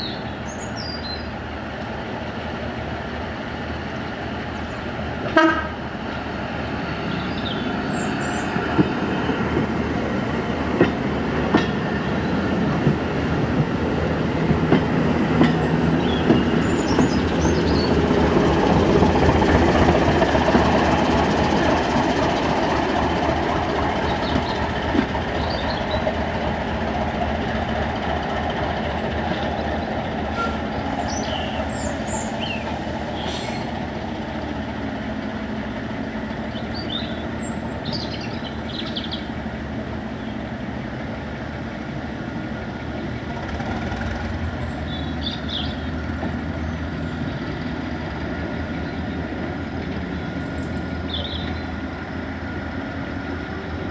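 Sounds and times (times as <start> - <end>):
diesel train passing: 0.0 - 53.9.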